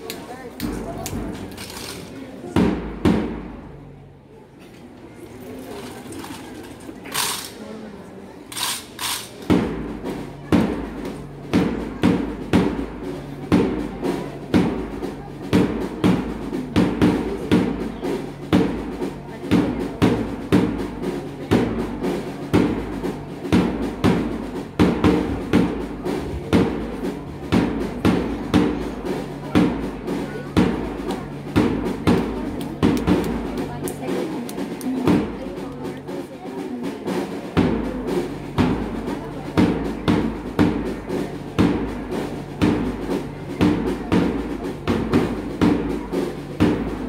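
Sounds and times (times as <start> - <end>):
steady drum beat: 0.0 - 4.0, 8.5 - 47.0.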